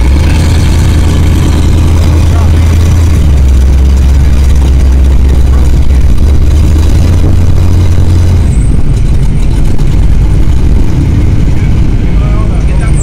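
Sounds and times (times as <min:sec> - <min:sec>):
low drone: 0:00.0 - 0:13.0
truck engine running: 0:00.0 - 0:13.0.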